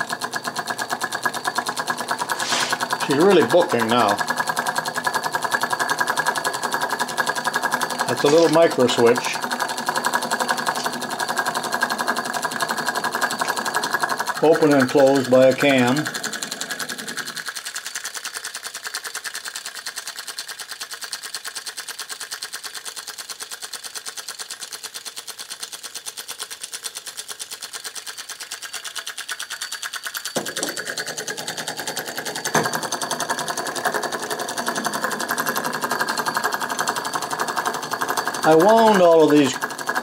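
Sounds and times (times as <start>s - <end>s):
model engine rapid clicking: 0.0s - 40.0s.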